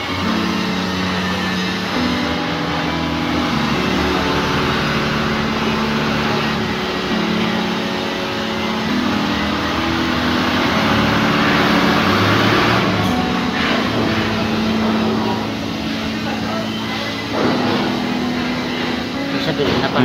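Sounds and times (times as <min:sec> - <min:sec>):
mechanical drone with hum: 0:00.0 - 0:20.0.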